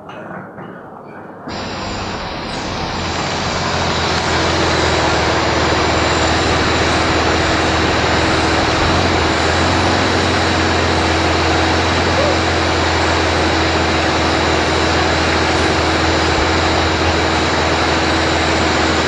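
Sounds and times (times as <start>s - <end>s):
loud steady rushing noise: 1.5s - 19.0s
low motor hum: 1.5s - 19.0s.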